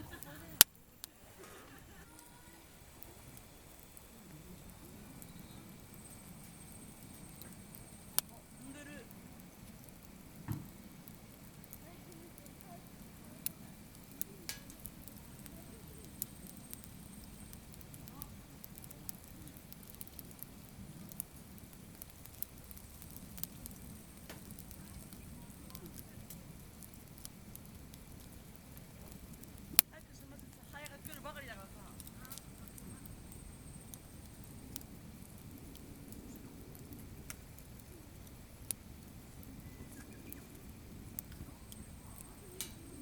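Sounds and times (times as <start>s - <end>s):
campfire crackling: 0.0s - 43.0s
low background rumble: 0.0s - 43.0s.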